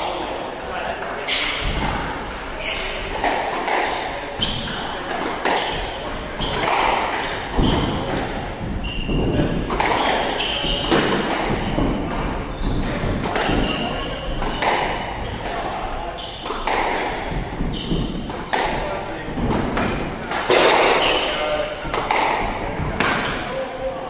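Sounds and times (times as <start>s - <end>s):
squash ball hitting rackets and walls: 1.0s - 23.6s
shoes squeaking: 1.2s - 24.0s.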